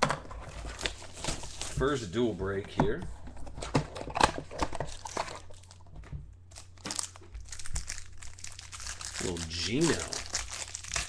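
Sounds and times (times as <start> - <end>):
low electrical hum: 0.0 - 11.0
foil wrappers and cards crinkling: 0.2 - 2.6, 3.6 - 5.9, 6.5 - 11.0.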